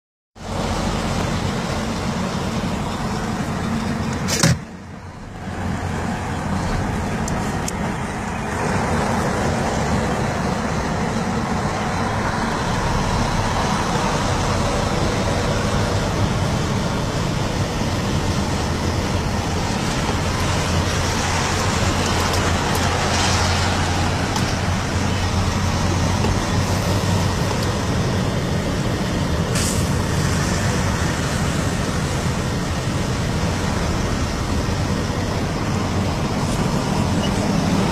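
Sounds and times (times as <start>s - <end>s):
truck diesel engine running: 0.4s - 37.9s.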